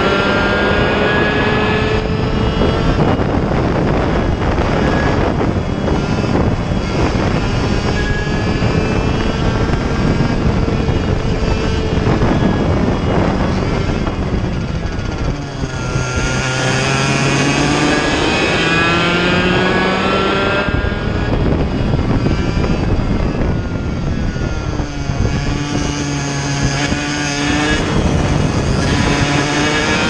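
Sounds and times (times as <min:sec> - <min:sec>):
kart engine accelerating: 0:00.0 - 0:30.0.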